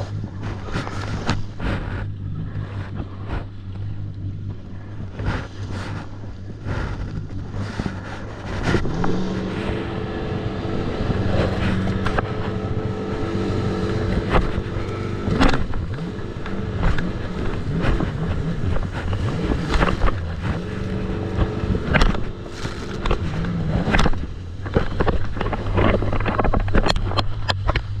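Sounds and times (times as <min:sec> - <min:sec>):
jet ski engine running: 0:00.0 - 0:28.0.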